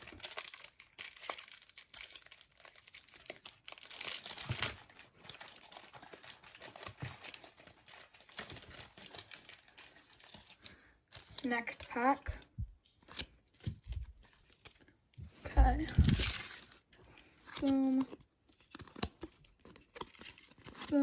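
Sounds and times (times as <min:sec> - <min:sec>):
plastic wrappers crinkling: 0:00.0 - 0:15.0, 0:15.6 - 0:21.0.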